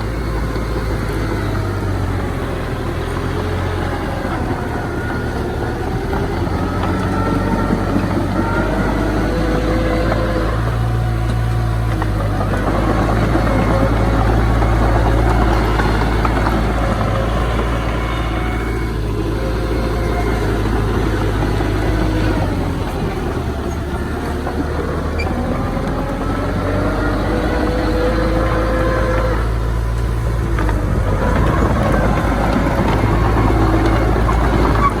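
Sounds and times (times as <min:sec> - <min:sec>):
heavy diesel engine rumbling: 0:00.0 - 0:35.0.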